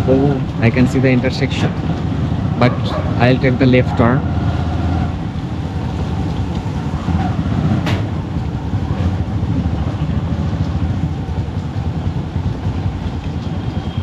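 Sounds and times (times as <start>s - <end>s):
motorcycle engine rumble: 0.0s - 14.0s
wind and road noise: 0.0s - 14.0s.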